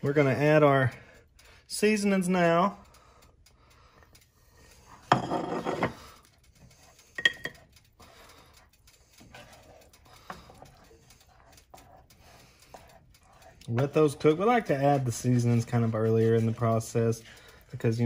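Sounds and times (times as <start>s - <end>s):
wooden spatula stirring sauce: 0.1s - 18.0s.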